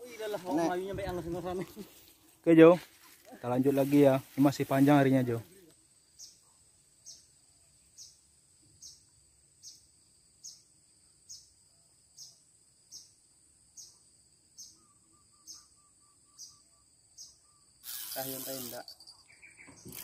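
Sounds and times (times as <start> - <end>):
insect chirps: 0.0 - 20.0
insect high-pitched whine: 3.6 - 20.0.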